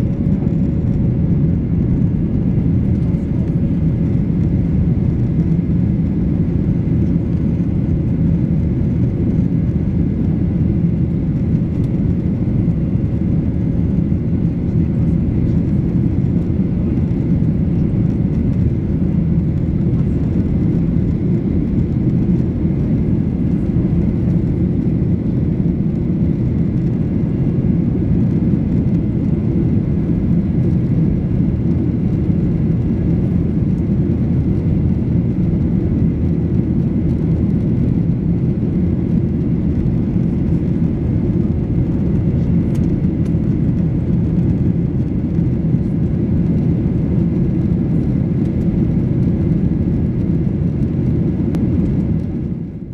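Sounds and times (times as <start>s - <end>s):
jet engine roar: 0.0s - 52.9s.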